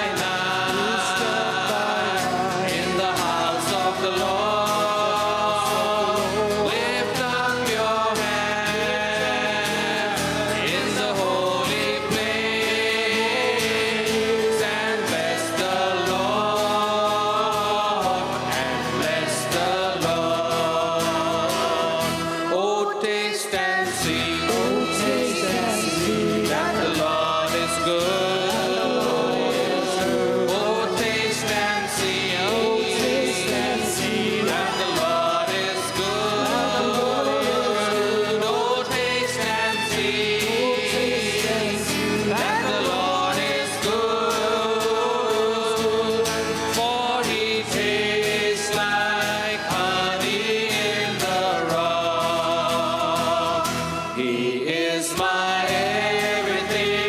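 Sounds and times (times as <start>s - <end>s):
guitar and keyboard with beat: 0.0s - 22.5s, 23.6s - 54.3s
group singing worship song: 0.0s - 57.0s.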